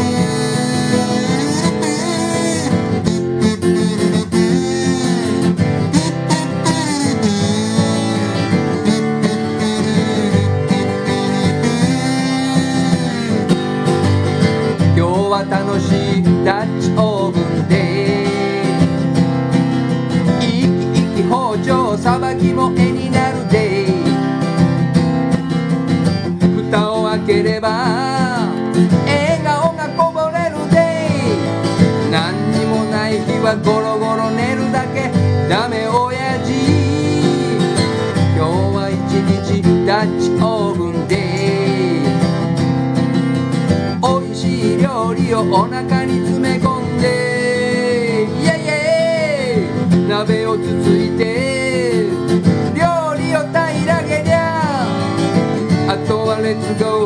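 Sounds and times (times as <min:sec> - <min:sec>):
country acoustic guitar music: 0:00.0 - 0:57.0.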